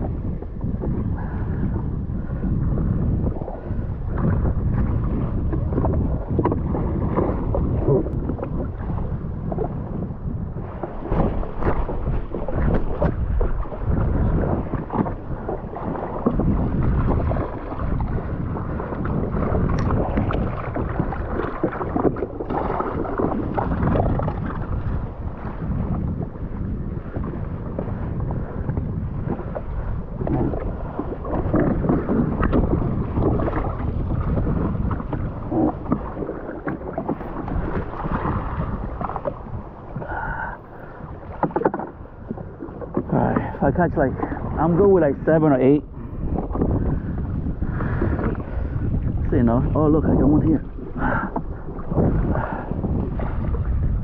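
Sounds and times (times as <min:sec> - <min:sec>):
water slapping against hull: 0:00.0 - 0:54.0
wind buffeting microphone: 0:00.0 - 0:54.0.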